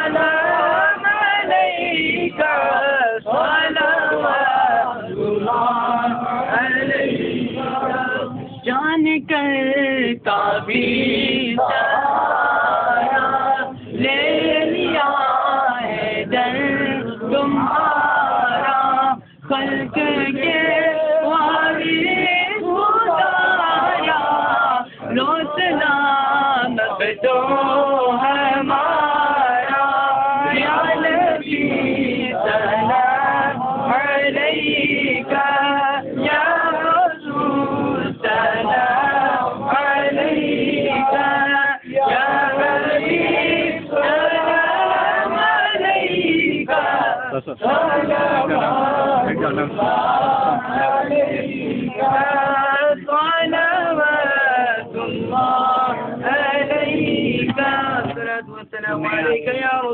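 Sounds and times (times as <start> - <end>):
men singing a chant: 0.0 - 59.8.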